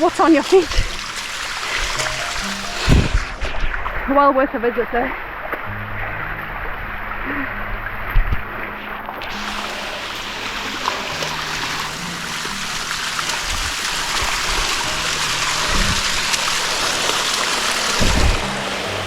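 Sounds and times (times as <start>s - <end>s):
waterfall rushing and splashing: 0.0s - 19.0s.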